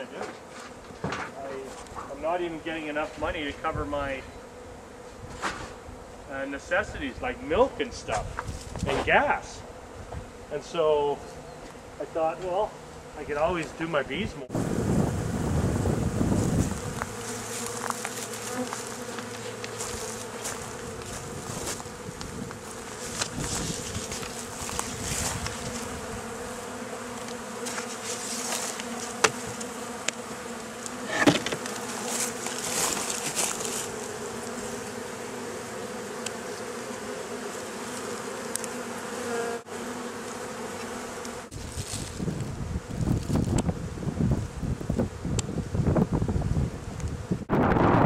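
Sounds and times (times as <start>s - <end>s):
honeybees buzzing: 0.0s - 48.0s.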